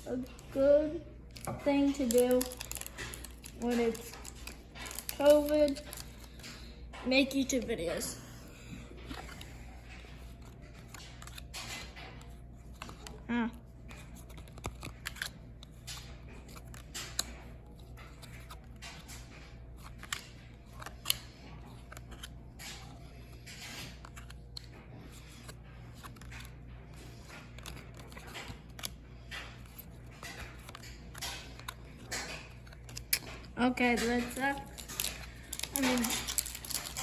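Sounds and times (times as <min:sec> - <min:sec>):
trading cards flipped and rustling: 0:00.1 - 0:37.0.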